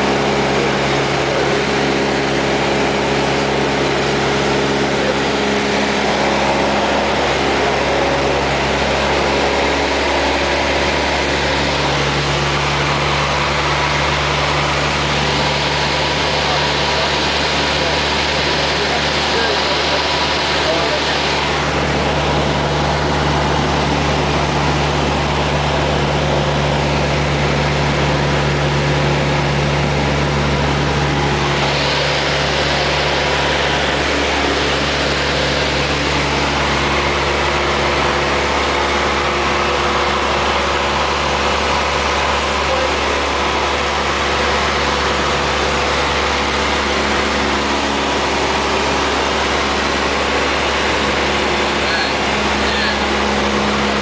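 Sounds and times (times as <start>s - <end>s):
propeller engine droning: 0.0s - 54.0s.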